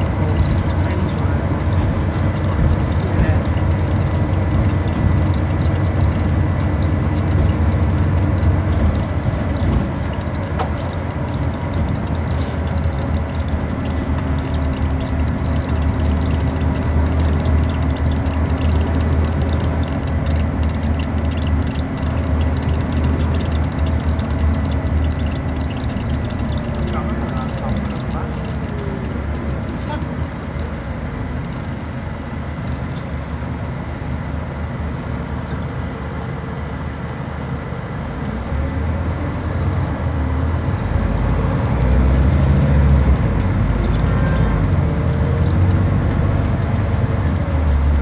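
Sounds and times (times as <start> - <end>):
bus engine drone: 0.0 - 48.0.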